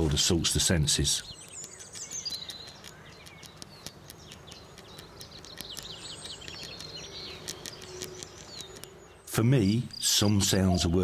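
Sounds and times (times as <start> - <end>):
birds singing: 0.0 - 11.0
faint outdoor hiss: 0.0 - 11.0.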